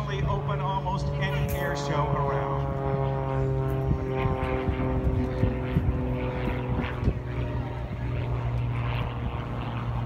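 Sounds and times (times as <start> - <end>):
propeller plane droning overhead: 0.0 - 10.0.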